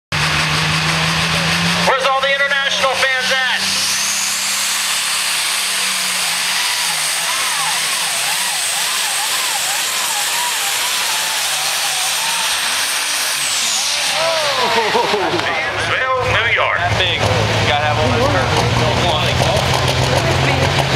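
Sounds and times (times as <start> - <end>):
tractor engine running flat out: 0.1 - 20.9.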